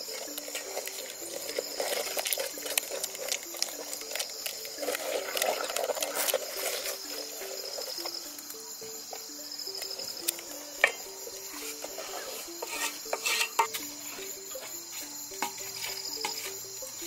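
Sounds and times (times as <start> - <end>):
wooden stick scraping saucepan: 0.0 - 8.2, 10.8 - 16.6
insects chirping: 0.0 - 17.0
slow plucked melody: 0.0 - 17.0.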